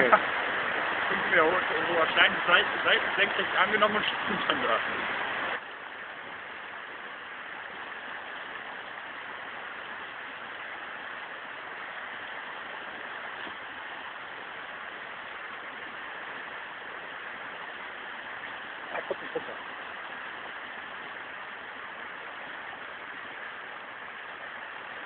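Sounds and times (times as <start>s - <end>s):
river rapids rushing over rocks: 0.0s - 25.0s.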